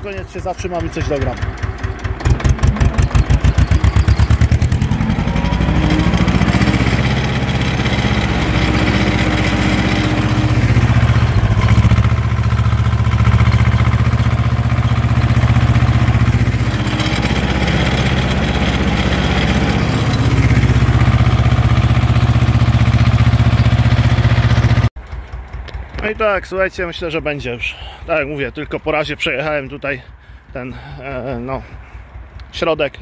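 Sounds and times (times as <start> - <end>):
tractor diesel engine running: 0.0 - 32.7.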